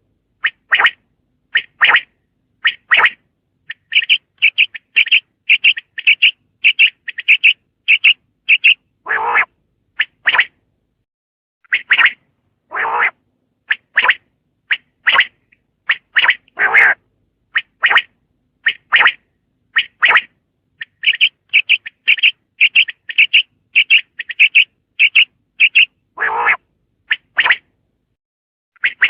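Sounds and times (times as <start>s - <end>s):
quail calling: 0.4s - 10.6s, 11.7s - 17.0s, 17.6s - 27.6s.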